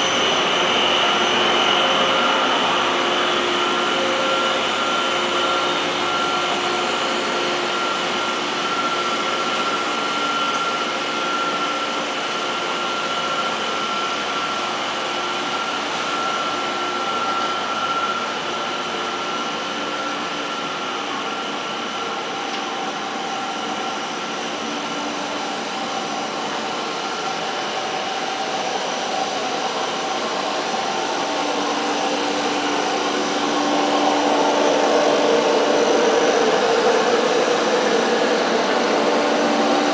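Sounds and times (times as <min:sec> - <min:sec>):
machine whirring with whining tones: 0:00.0 - 0:39.9.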